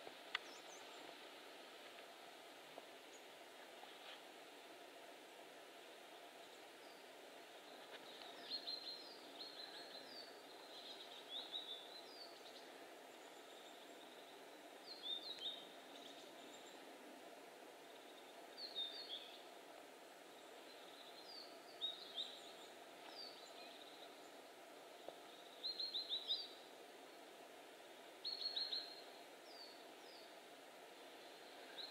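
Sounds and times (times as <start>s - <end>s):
small birds chirping: 0.0s - 2.1s, 5.4s - 17.0s, 17.8s - 31.9s
steady background hiss: 0.0s - 31.9s.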